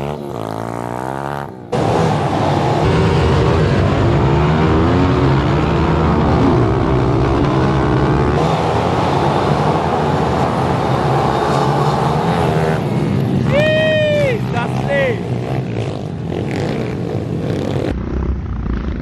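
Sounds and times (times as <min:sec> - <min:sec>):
small motorbike engines revving: 0:00.0 - 0:19.0.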